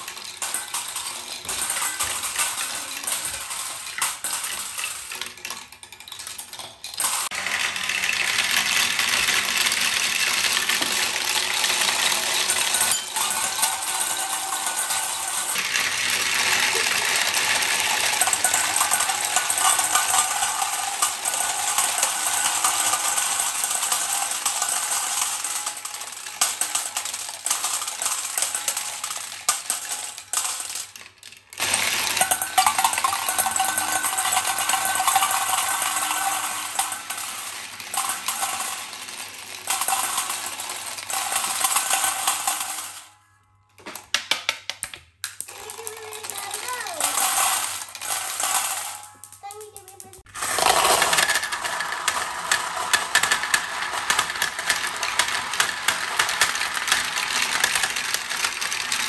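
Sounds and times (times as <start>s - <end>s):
marbles dropping into steel bowl: 0.0s - 59.0s
marbles rattling down plastic track: 0.0s - 59.0s.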